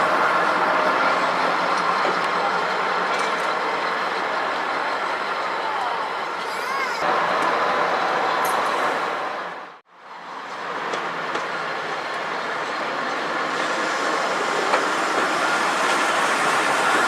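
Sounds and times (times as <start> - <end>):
wheels clicking over rail joints: 0.0 - 7.6, 10.4 - 17.0
train running: 0.0 - 17.0.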